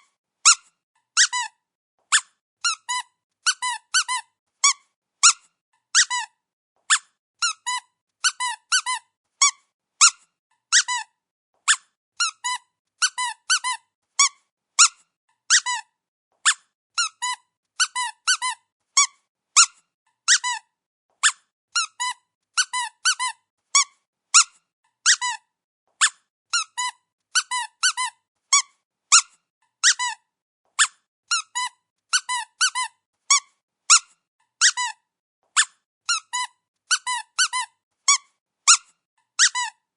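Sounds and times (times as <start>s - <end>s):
squeaky dog toy squeaking: 0.4s - 39.9s.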